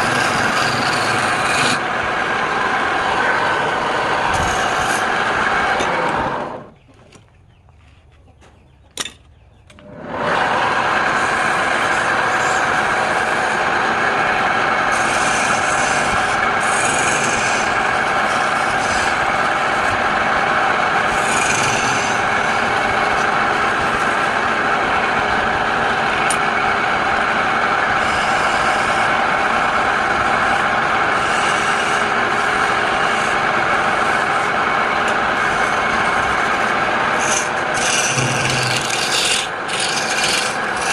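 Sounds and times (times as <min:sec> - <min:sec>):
wood lathe tool scraping: 0:00.0 - 0:06.7, 0:09.8 - 0:40.9.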